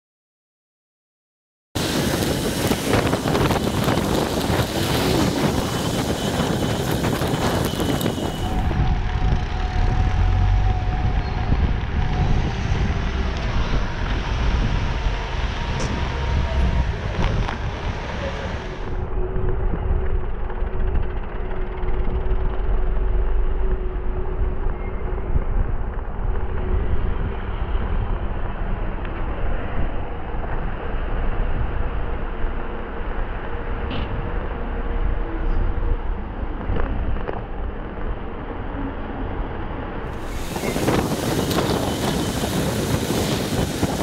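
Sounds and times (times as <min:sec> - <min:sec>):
road and traffic noise: 0:01.8 - 0:44.0
wind rumbling on microphone: 0:01.8 - 0:44.0.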